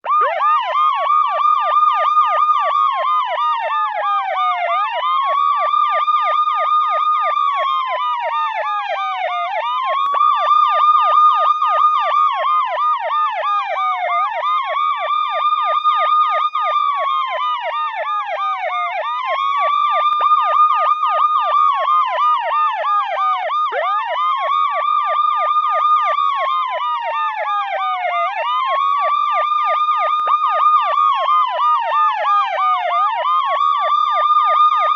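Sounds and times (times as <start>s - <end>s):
police siren wailing: 0.0s - 34.9s
siren rapid yelp: 0.0s - 34.9s.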